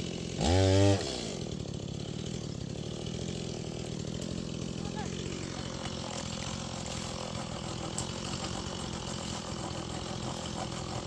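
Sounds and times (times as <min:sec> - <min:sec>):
chainsaw engine running: 0:00.0 - 0:11.0.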